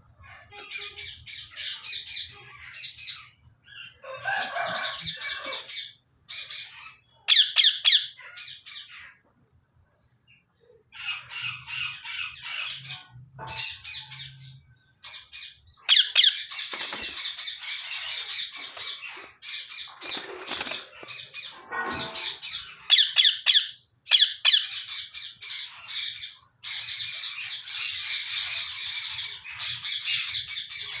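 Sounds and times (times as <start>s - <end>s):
parrot squawking and chattering: 0.0s - 9.2s, 10.8s - 31.0s.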